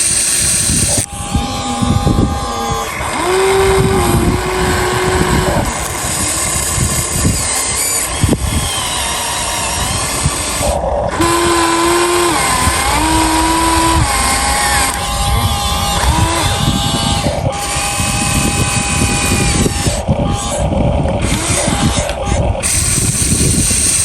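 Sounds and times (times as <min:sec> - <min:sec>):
model excavator motors whining: 0:00.0 - 0:24.0
steady noisy rumble: 0:00.0 - 0:24.0.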